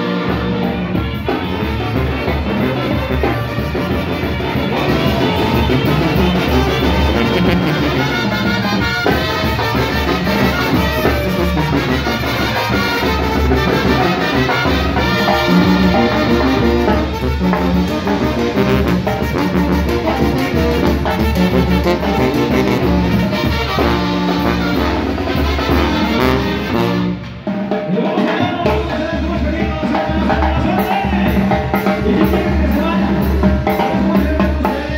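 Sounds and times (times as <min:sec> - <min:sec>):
live brass band music: 0:00.0 - 0:34.9
timbales and drum kit: 0:00.0 - 0:34.9.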